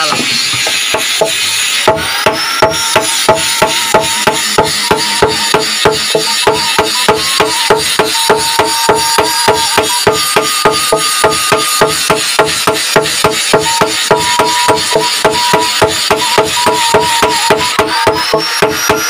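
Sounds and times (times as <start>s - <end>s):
hammers striking on anvil: 0.0s - 19.0s
metallic ring: 1.1s - 19.0s.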